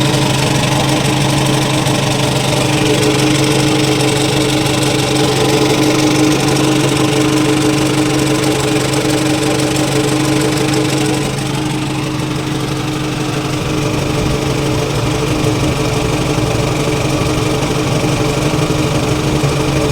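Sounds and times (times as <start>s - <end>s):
engine running: 0.0s - 19.9s
strange mechanical noise: 0.0s - 19.9s.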